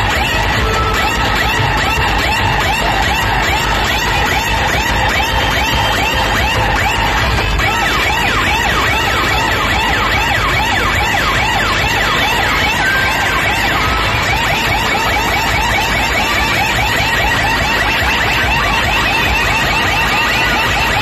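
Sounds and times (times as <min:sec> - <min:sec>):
siren-like sound effect sweeps: 0:00.0 - 0:21.0.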